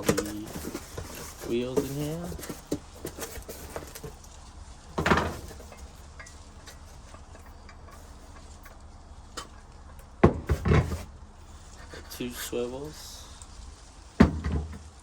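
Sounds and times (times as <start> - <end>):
scrape or rustle of parts: 0.0 - 9.7, 10.4 - 14.1
low steady hum: 0.0 - 15.0.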